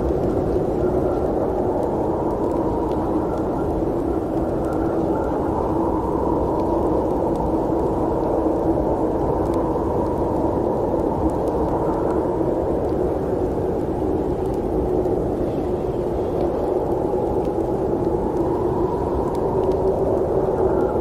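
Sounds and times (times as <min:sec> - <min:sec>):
faint ticks: 0:00.0 - 0:21.0
low rushing wind: 0:00.0 - 0:21.0.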